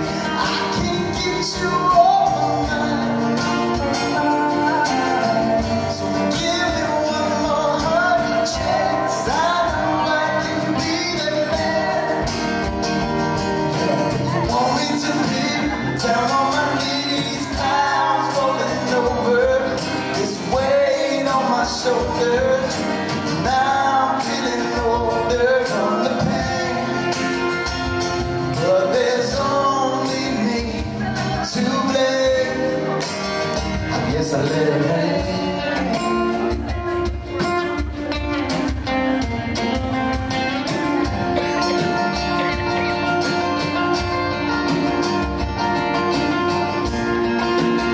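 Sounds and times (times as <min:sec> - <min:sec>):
man singing: 0:00.0 - 0:47.9
strummed acoustic guitars: 0:00.0 - 0:47.9.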